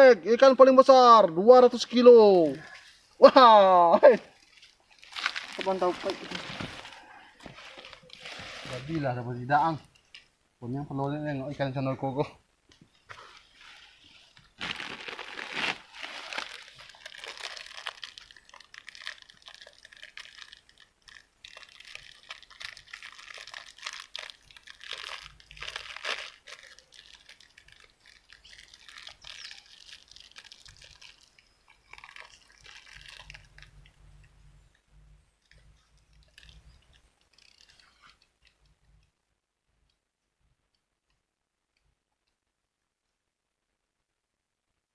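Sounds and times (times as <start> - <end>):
rustling and crackling: 0.8 - 10.4, 11.0 - 39.1.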